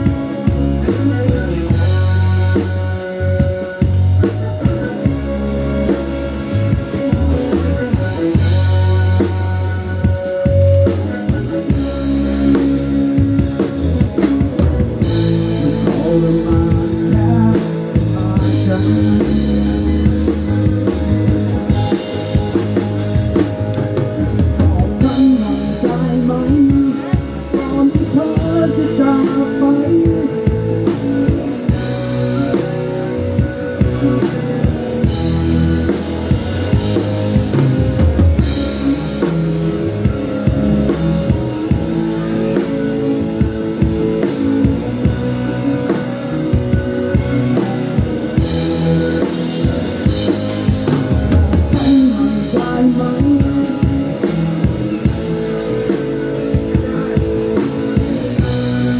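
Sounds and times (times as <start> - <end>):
bass guitar: 0.0 - 58.9
sustained guitar: 0.0 - 58.9.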